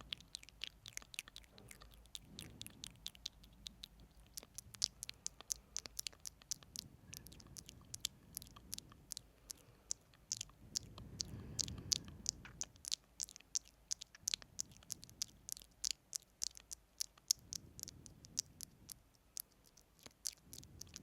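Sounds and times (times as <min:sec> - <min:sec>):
faint low hum: 0:00.0 - 0:21.0
wet lip and tongue clicks: 0:00.0 - 0:21.0.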